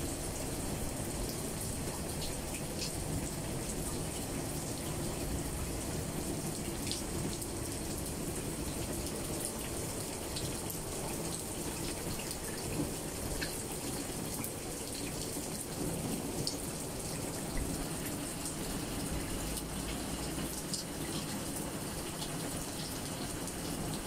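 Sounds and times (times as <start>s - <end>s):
faint ticks of raindrops: 0.0s - 24.0s
rain on leafy branches: 0.0s - 24.0s.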